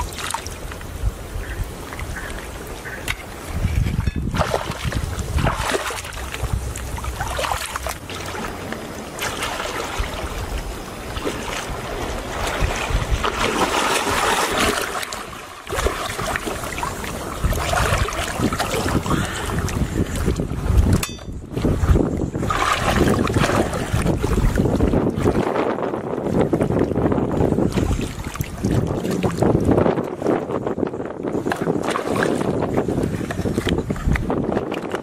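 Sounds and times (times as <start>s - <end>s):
water splashing around legs: 0.0s - 1.0s, 1.8s - 25.9s, 26.6s - 30.6s, 31.4s - 35.0s
wind on the microphone: 0.0s - 35.0s.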